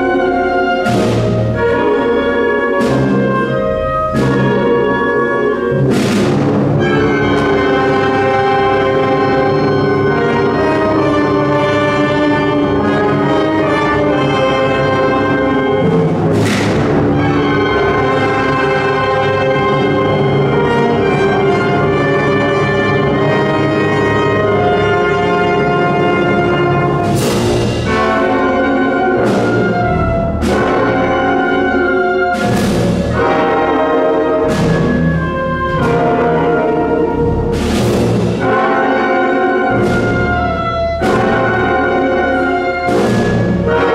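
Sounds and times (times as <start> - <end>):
wind band playing a march: 0.0 - 43.9.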